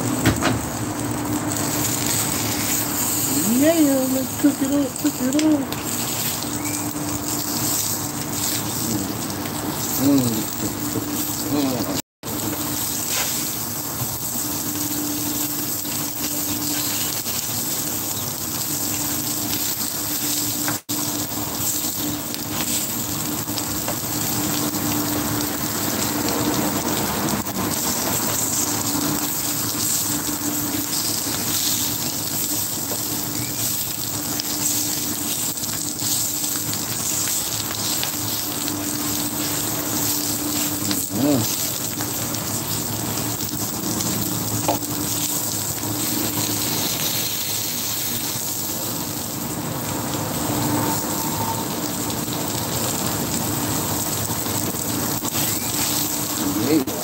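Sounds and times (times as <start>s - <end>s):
sausage sizzling on a griddle: 0.0s - 57.0s.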